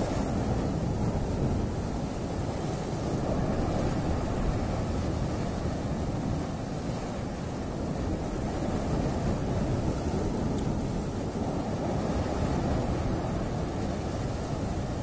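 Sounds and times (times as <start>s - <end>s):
surf washing over rocks: 0.0s - 15.0s
wind on microphone: 0.0s - 15.0s.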